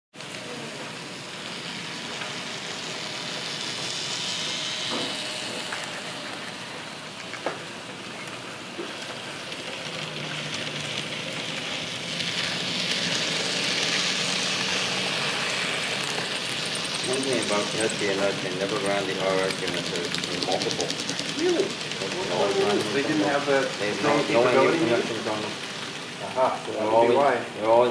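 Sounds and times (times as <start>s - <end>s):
model train wheels rattling on track: 0.2s - 27.9s.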